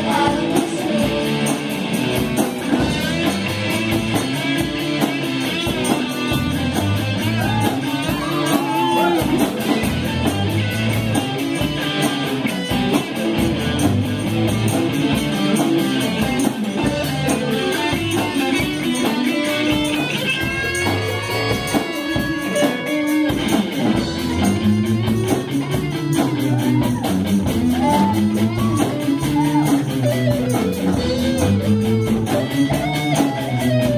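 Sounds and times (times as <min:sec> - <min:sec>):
live rock band playing: 0:00.0 - 0:33.9
strummed electric guitars: 0:00.0 - 0:33.9.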